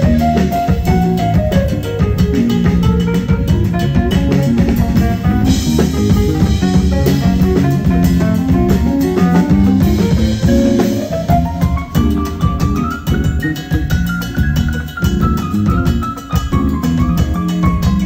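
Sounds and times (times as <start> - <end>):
keyboard: 0.0 - 18.0
salsa band music: 0.0 - 18.0
steady drum beat: 0.0 - 18.0.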